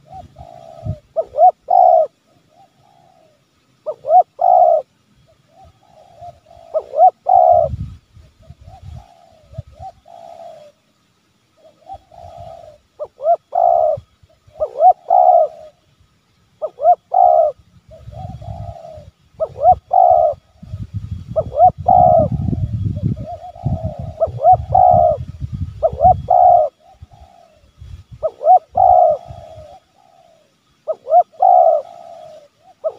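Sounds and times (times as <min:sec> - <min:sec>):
dove cooing: 0:00.0 - 0:10.8, 0:11.6 - 0:15.9, 0:16.6 - 0:32.9.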